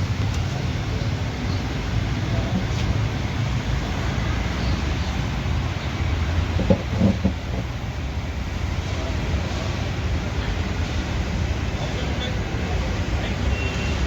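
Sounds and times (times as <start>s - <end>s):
background traffic rumble: 0.0s - 14.0s.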